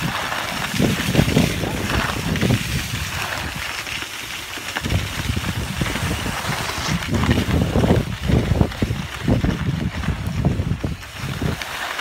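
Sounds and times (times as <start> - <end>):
skis scraping over snow: 0.0 - 12.0
wind rumbling on microphone: 0.0 - 12.0.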